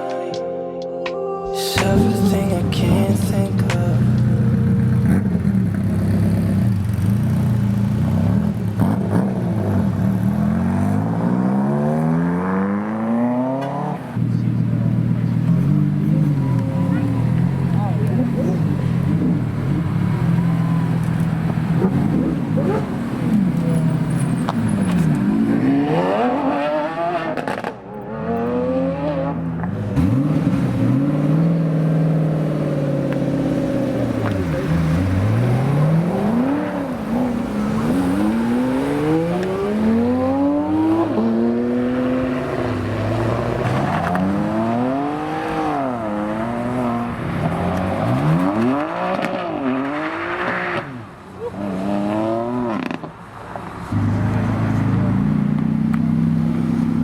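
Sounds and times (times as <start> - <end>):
car engines revving: 1.8 - 57.0.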